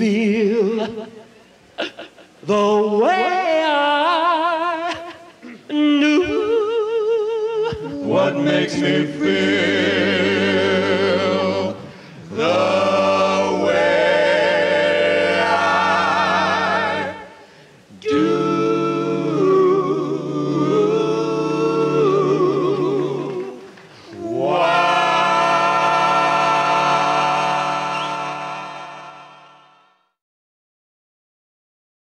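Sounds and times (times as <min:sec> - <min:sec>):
a cappella group singing harmony: 0:00.0 - 0:30.2.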